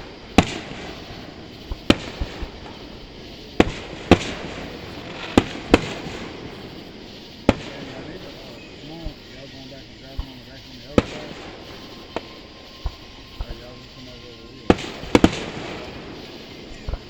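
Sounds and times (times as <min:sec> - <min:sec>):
fireworks bangs with echo: 0:00.0 - 0:17.0.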